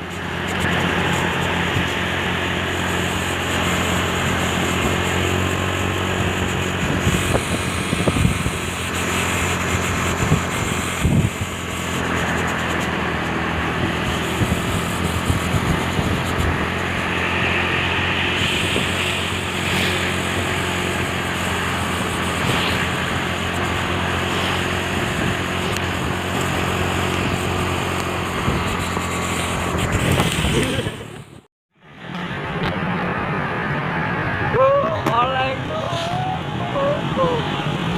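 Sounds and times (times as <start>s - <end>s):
diesel truck engine droning: 0.0s - 37.9s
road noise hiss: 0.0s - 37.9s.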